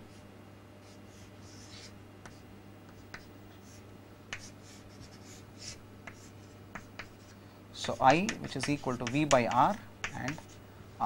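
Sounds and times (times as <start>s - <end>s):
low electrical hum: 0.0s - 11.0s
pen scratching on surface: 0.8s - 10.6s.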